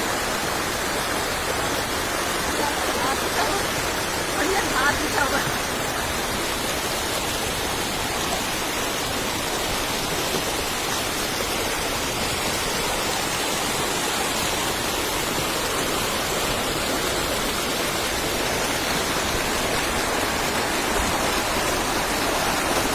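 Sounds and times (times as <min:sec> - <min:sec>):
waterfall roaring: 0:00.0 - 0:22.9.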